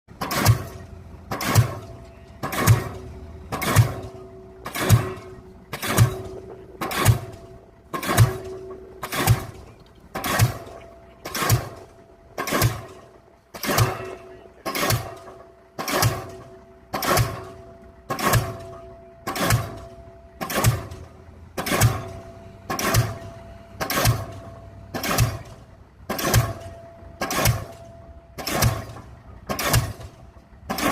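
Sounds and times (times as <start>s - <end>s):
pile hammer blows: 0.1s - 30.9s.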